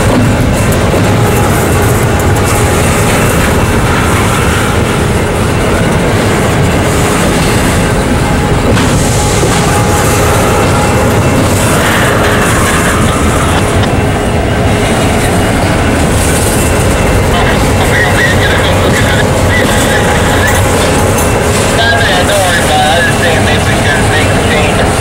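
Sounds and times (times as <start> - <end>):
clickety-clack of train: 0.0 - 25.0
freight train wheels on rail: 0.0 - 25.0.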